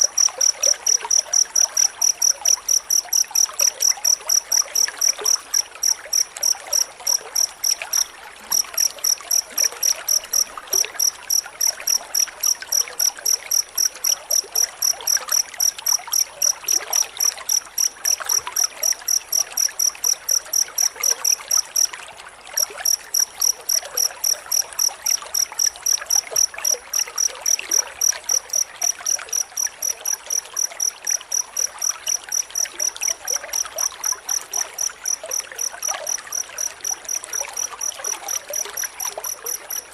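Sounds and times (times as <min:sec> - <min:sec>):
cricket chirping: 0:00.0 - 0:22.0, 0:22.6 - 0:39.9.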